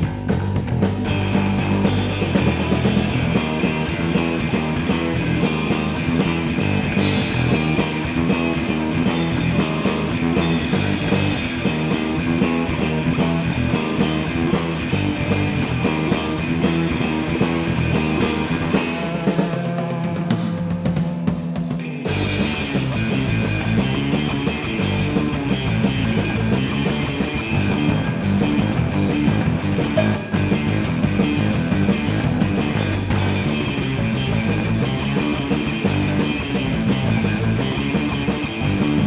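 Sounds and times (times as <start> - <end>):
instrumental rock music: 0.0 - 39.0.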